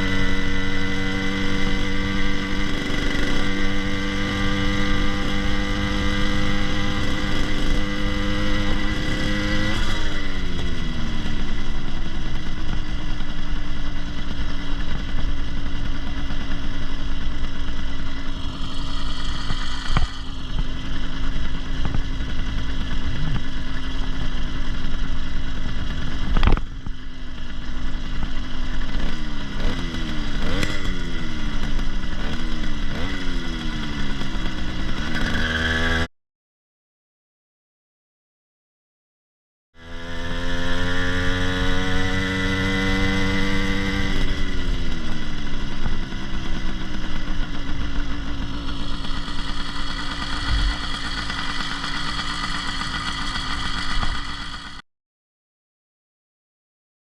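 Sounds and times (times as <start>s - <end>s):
motorized bicycle engine running: 0.0s - 35.8s, 39.8s - 54.8s.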